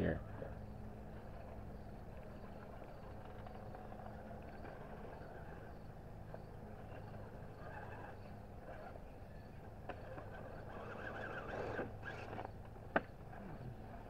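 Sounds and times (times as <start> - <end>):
toy car motor and gears whirring: 0.0 - 14.0.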